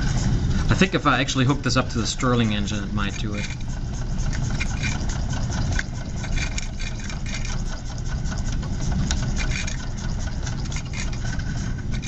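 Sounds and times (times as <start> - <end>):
model steam engine clattering: 2.0 - 12.0.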